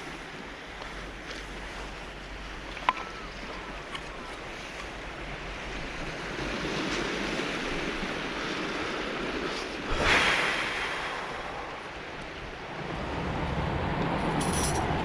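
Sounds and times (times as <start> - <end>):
sea waves breaking on cobbles: 0.0 - 15.0.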